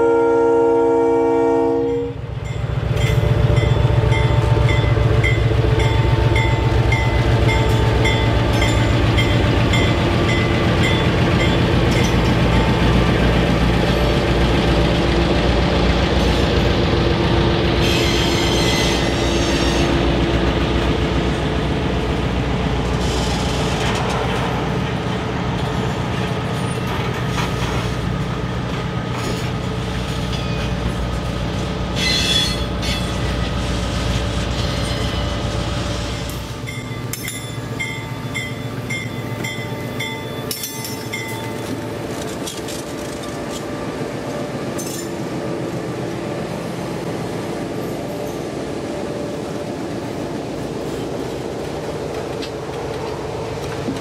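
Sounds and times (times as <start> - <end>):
diesel locomotive engines droning: 0.0 - 54.0.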